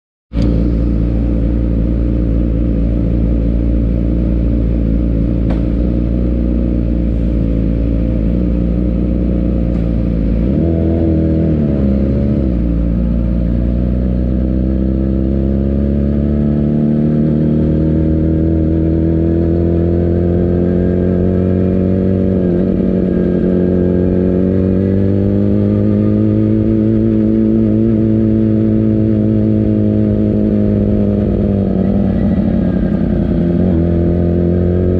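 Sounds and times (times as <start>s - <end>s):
motorcycle engine revving: 0.3s - 34.9s.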